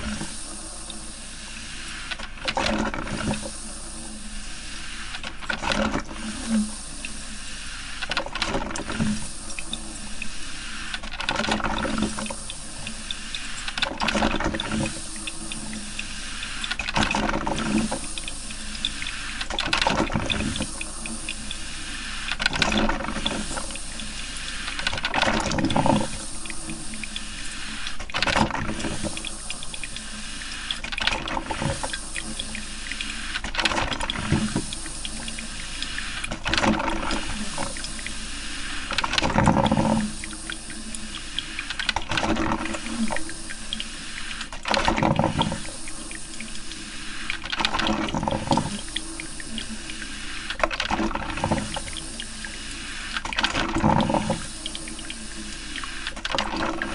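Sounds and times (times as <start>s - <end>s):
coffee maker hiss: 0.0s - 5.4s, 6.0s - 47.4s, 48.0s - 53.2s, 53.8s - 56.9s
coffee maker gurgling: 0.0s - 7.4s, 8.0s - 56.9s.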